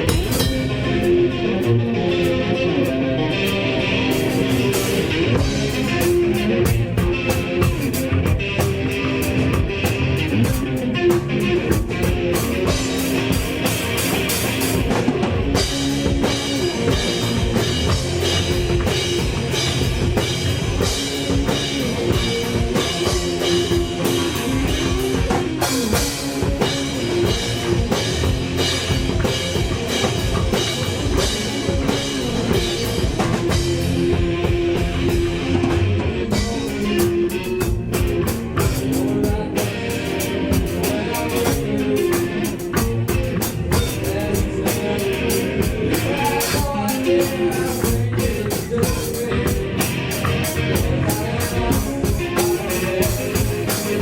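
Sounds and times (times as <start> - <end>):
drum kit: 0.0 - 54.0
electric guitar: 0.0 - 54.0
rock band playing live: 0.0 - 54.0.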